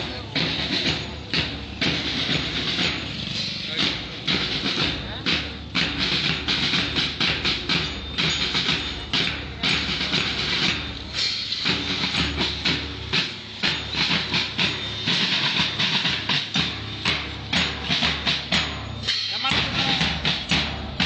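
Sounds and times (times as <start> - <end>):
marching drums beating: 0.0 - 21.0.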